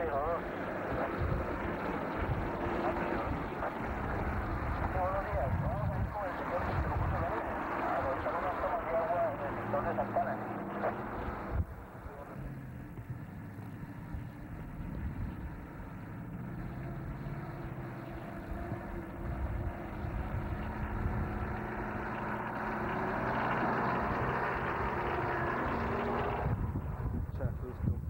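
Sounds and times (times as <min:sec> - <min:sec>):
off-road vehicle engines crawling: 0:00.0 - 0:28.0.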